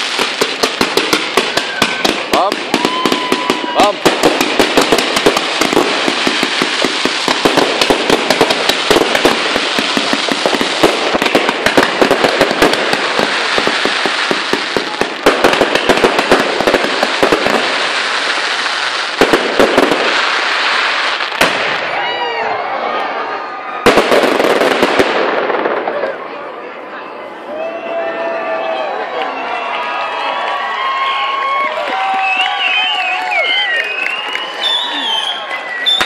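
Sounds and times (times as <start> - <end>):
fireworks crackling: 0.0 - 22.4, 23.7 - 27.5, 28.5 - 36.0
fireworks bangs: 0.0 - 22.5, 23.7 - 27.2, 29.8 - 36.0.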